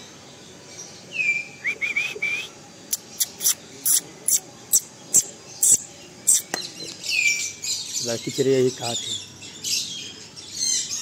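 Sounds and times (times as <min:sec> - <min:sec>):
caged birds calling: 0:00.0 - 0:11.0.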